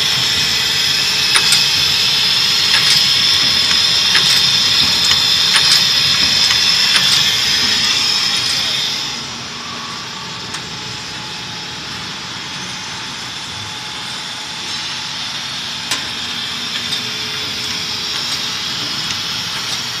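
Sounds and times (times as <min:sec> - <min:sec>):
bottling machine running: 0:00.0 - 0:20.0.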